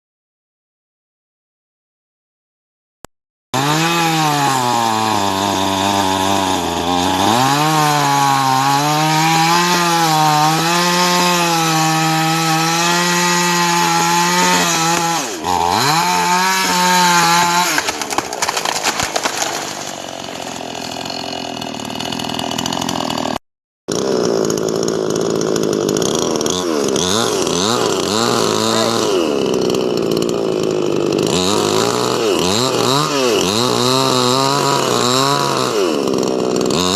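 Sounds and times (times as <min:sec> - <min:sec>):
chainsaw cutting wood: 0:03.6 - 0:36.9.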